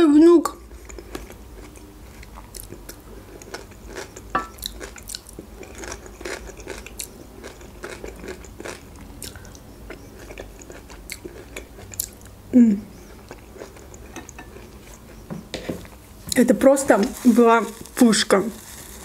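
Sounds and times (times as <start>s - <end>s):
chewing and crunching salad: 0.5s - 19.0s.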